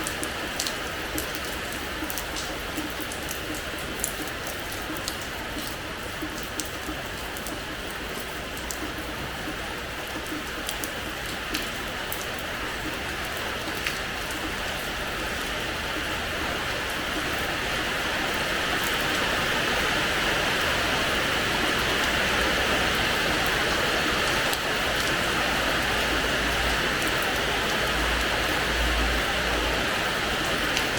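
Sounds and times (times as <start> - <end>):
rain on hard floor: 0.0 - 30.9.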